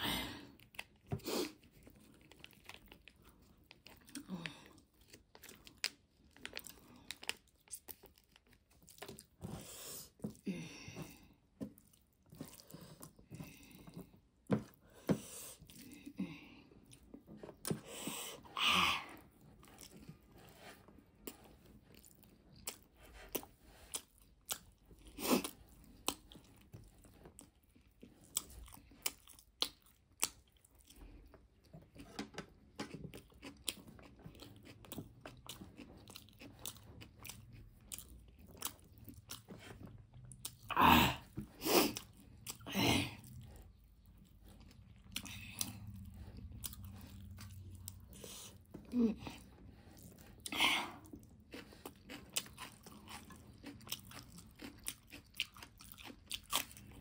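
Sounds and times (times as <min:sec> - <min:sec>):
person chewing noodles: 0:00.0 - 0:57.0.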